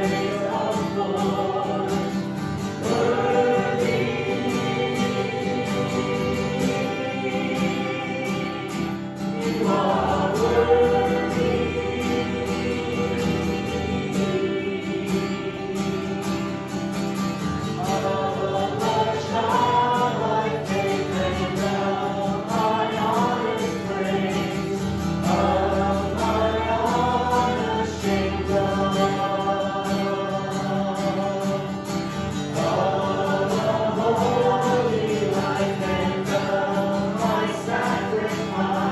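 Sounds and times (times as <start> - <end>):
people singing worship song: 0.0 - 38.9.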